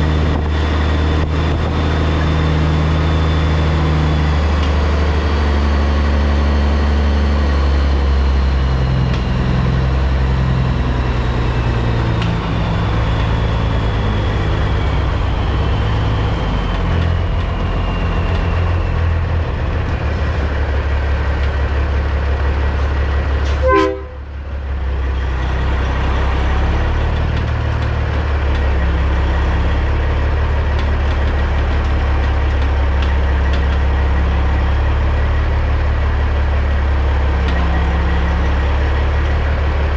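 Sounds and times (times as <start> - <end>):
diesel truck engine reversing: 0.0 - 39.9.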